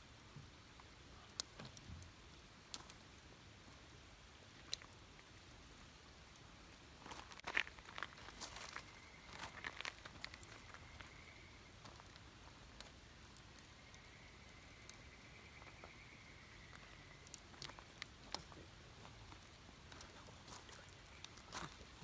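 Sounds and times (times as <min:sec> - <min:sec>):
wood fire crackling faintly: 0:00.0 - 0:22.0.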